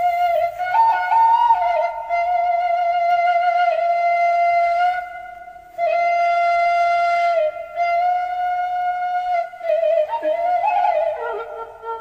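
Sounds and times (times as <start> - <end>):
flute playing long notes: 0.0 - 12.0.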